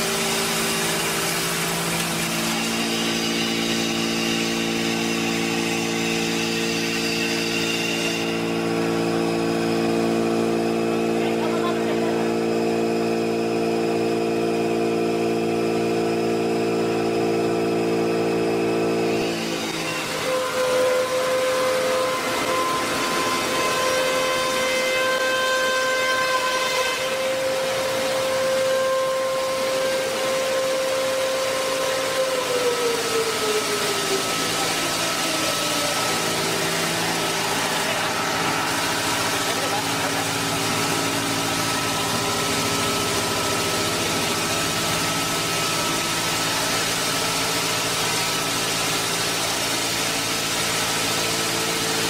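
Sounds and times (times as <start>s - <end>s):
machine humming: 0.0s - 52.0s.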